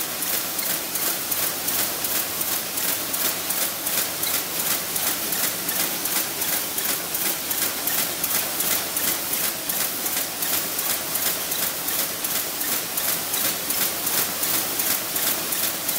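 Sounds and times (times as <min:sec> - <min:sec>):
machine clattering rhythmically: 0:00.0 - 0:15.9.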